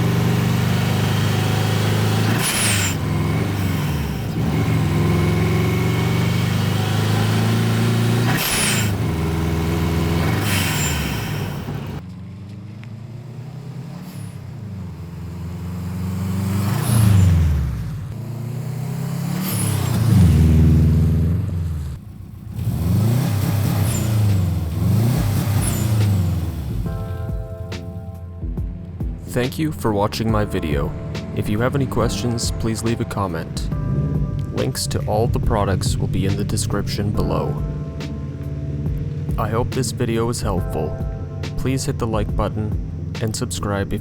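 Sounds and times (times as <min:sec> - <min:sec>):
turbocharged engine revving: 0:00.0 - 0:44.0.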